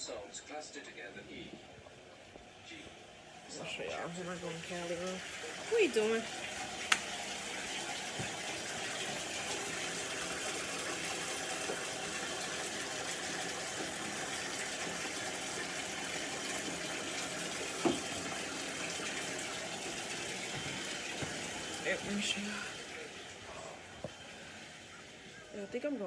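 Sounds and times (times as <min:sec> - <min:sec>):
faucet water pouring into bath: 0:03.5 - 0:26.0.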